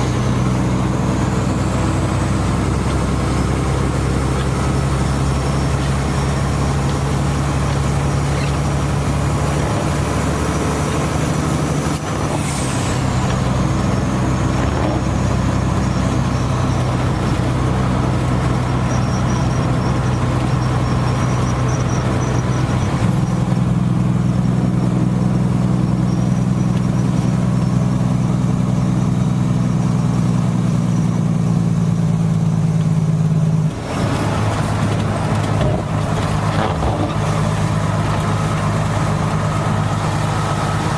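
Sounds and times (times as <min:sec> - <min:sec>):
vehicle engine idling: 0:00.0 - 0:40.9.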